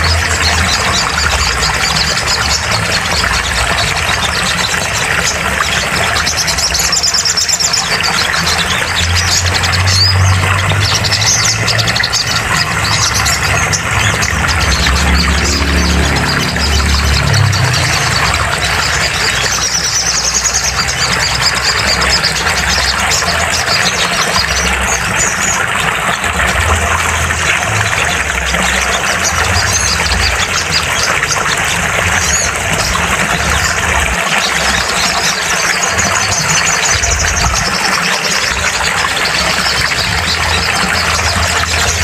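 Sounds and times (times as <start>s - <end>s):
bird high-pitched trills: 0.0s - 42.0s.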